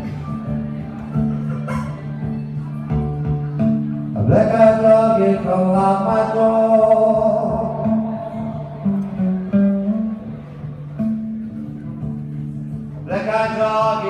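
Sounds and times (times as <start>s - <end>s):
acoustic guitar figure: 0.0s - 14.0s.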